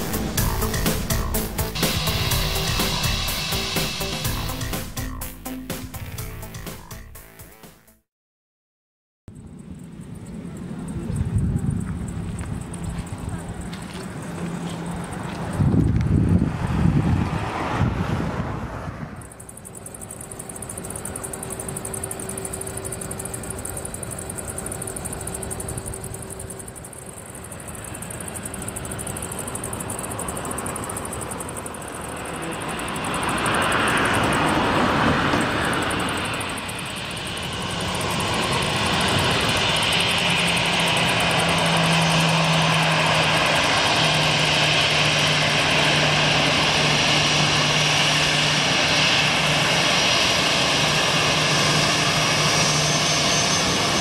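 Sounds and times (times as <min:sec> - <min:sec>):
jet engines roaring: 0:00.0 - 0:06.5, 0:09.4 - 0:54.0.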